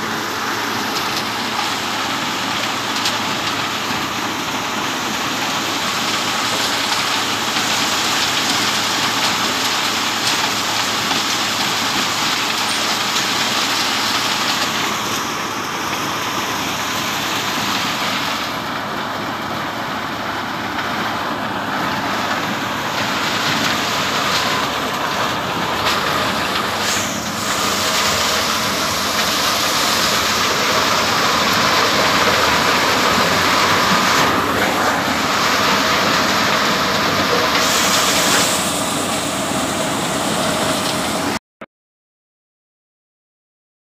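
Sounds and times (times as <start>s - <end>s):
corn sheller running: 0.0s - 41.4s.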